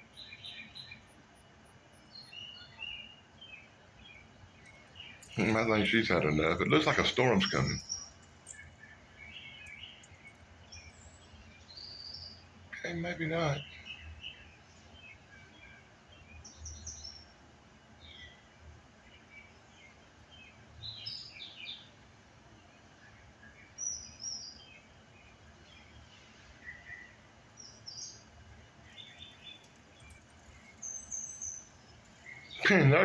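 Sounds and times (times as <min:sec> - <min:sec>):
faint low background noise: 0:00.0 - 0:33.0
wild birds chirping: 0:00.0 - 0:33.0.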